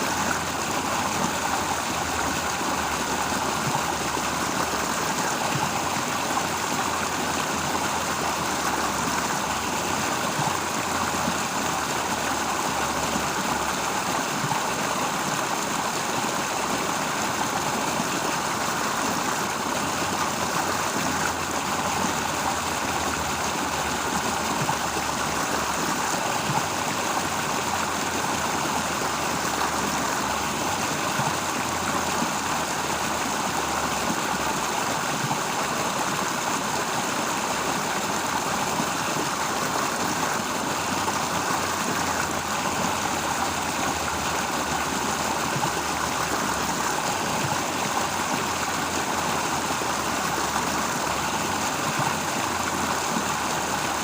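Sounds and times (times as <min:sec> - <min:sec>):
water flowing in a stream: 0:00.0 - 0:54.0.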